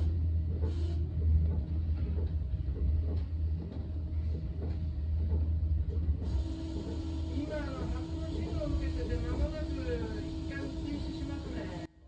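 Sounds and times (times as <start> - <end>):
electric train rumbling on track: 0.0 - 12.0.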